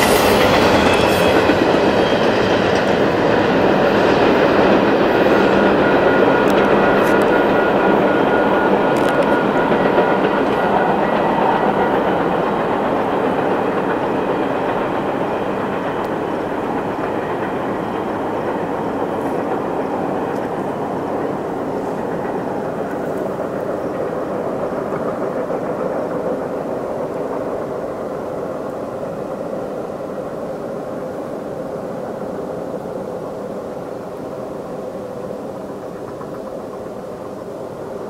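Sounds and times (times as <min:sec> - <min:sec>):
train wheels on rails: 0:00.0 - 0:38.0.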